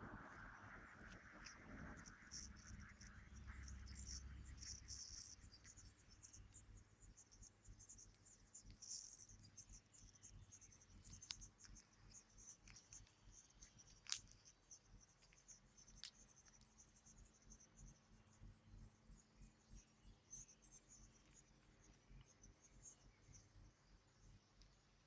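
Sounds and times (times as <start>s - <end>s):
rapid high-pitched chirping: 0.0s - 24.4s.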